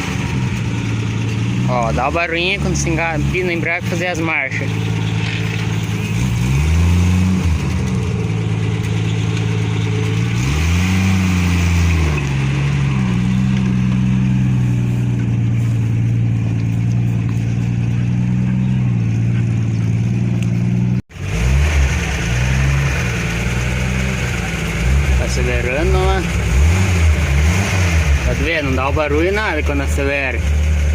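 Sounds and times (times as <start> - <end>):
pickup engine revving and idling: 0.0 - 30.9.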